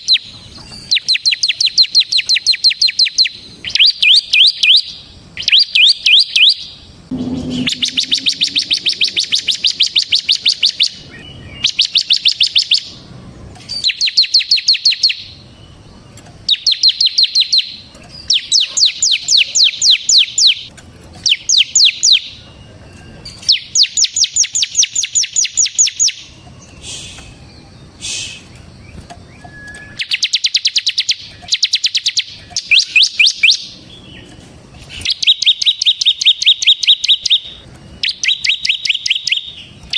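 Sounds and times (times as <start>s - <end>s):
bird singing rattling song: 0.0s - 39.9s.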